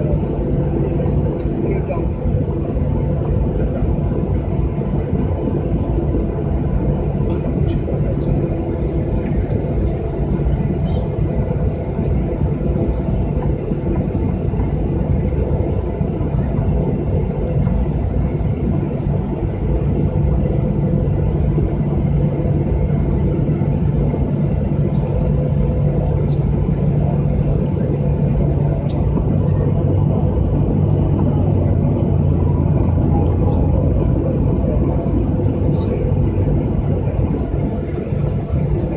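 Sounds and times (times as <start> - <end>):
jet engine hum in cabin: 0.0 - 38.9.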